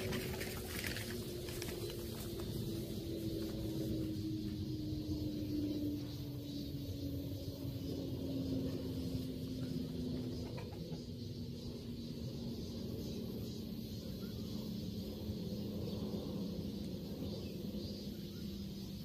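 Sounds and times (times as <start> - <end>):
outdoor background noise: 0.0 - 19.0
steady low hum: 0.0 - 19.0.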